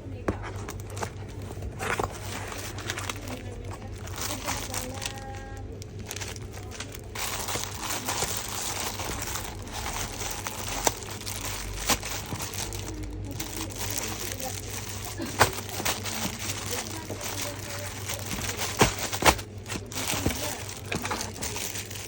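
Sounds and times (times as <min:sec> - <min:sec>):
packaging crinkling: 0:00.2 - 0:22.0.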